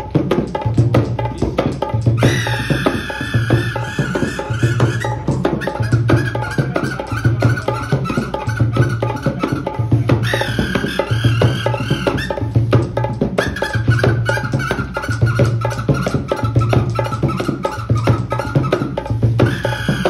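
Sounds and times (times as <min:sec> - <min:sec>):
hand drum beat: 0:00.0 - 0:20.0.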